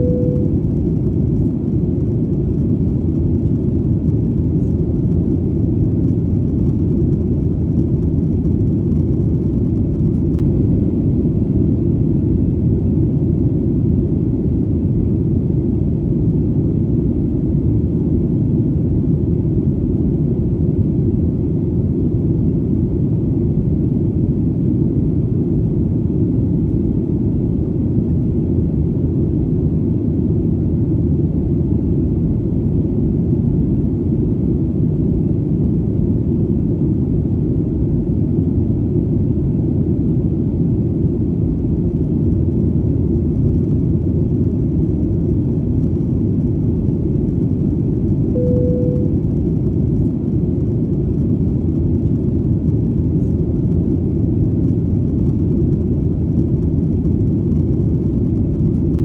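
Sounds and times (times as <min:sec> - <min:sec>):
airplane engine and airflow rumble: 0:00.0 - 0:59.0.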